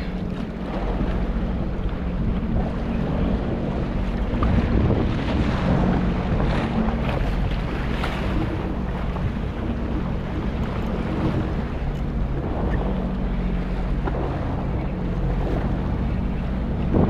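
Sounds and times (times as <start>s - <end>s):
jet ski engine running: 0.0s - 17.0s
water splashing against hull: 0.0s - 17.0s
wind buffeting microphone: 0.0s - 17.0s.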